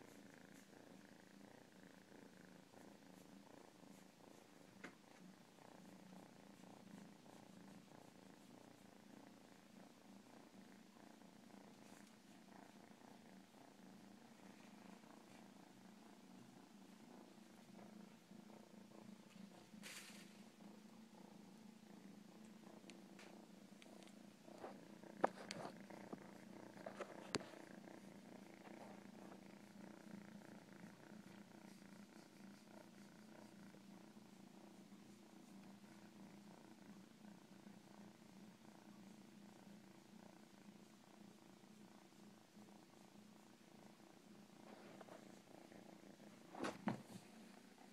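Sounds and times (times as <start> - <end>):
cat purring: 0.0 - 47.9.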